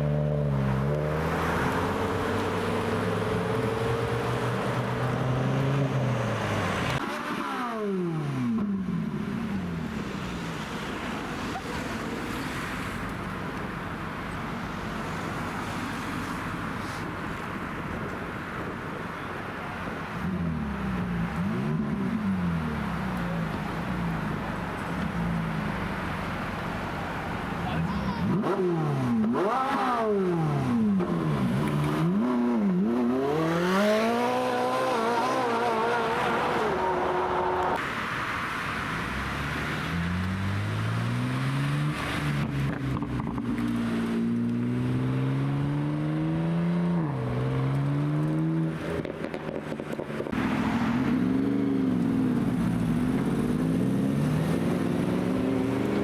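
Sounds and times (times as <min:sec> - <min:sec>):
car engines driving past: 0:00.0 - 0:17.6, 0:19.8 - 0:56.0.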